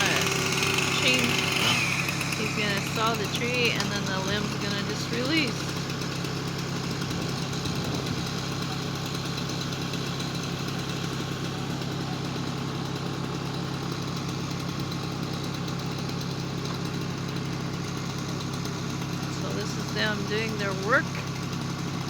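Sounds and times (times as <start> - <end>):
machine engine idling: 0.0 - 22.0.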